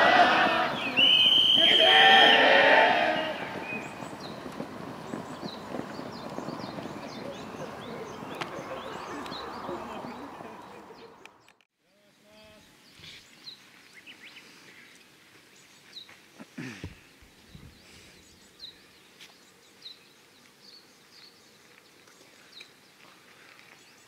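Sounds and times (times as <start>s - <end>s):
small birds chirping: 3.6s - 24.0s.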